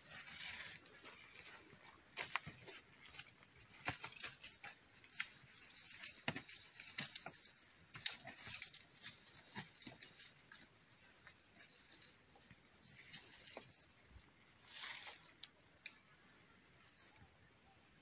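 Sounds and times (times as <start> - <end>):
dry leaves and twigs crackling: 0.1 - 16.2.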